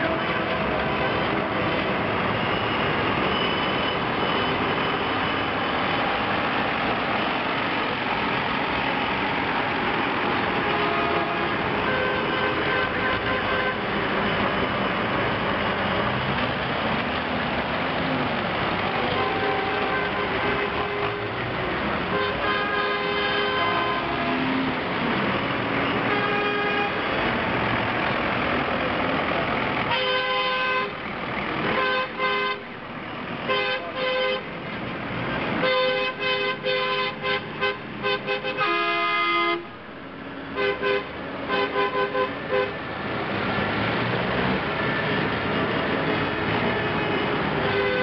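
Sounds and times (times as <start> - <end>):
horns honking: 0.0 - 16.3, 18.1 - 27.9, 29.8 - 32.8, 33.4 - 34.6, 35.5 - 39.8, 40.5 - 44.5, 45.2 - 48.0
tractor engines running: 0.0 - 48.0.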